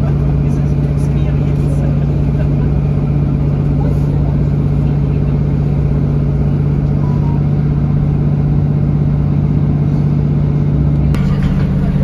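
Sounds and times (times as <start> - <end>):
rumble of running train: 0.0 - 12.0
train engine drone: 0.0 - 12.0.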